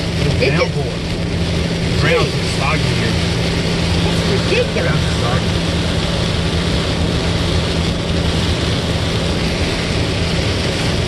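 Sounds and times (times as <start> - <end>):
heavy rain hissing: 0.0 - 11.0
low hum: 0.0 - 11.0.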